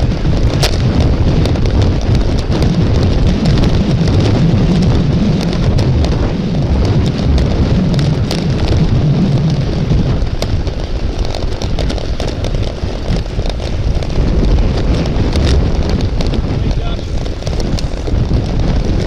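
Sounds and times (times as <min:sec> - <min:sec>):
sharp ticks and rattles: 0:00.0 - 0:19.0
wind buffeting microphone: 0:00.0 - 0:19.0.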